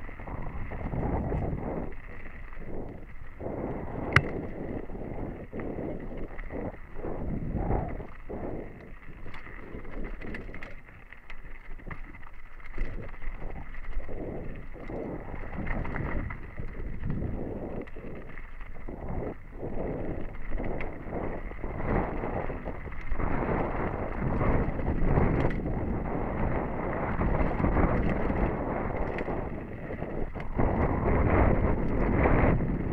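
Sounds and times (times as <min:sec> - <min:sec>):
bike knocking and rattling: 0:00.0 - 0:32.9
wind buffeting microphone: 0:00.0 - 0:32.9.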